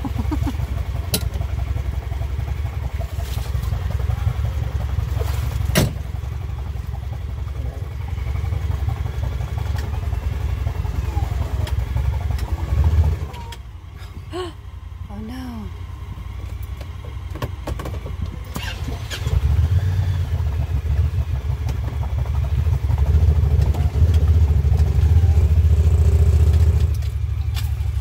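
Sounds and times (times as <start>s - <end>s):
utility vehicle engines rumbling: 0.0s - 28.0s.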